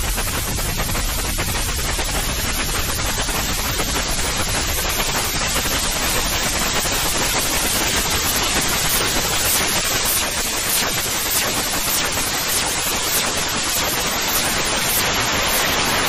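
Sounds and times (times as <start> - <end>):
steady white noise hiss: 0.0 - 16.0.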